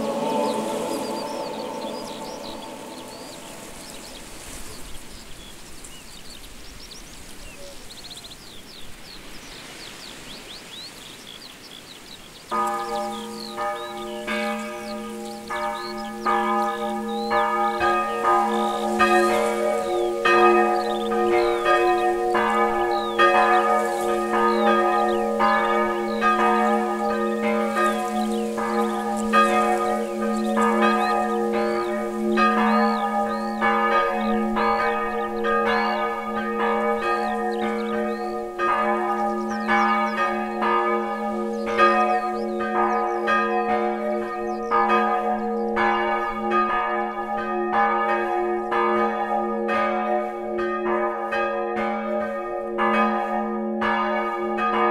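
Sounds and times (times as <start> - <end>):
church bell ringing: 0.0 - 5.1, 12.5 - 54.9.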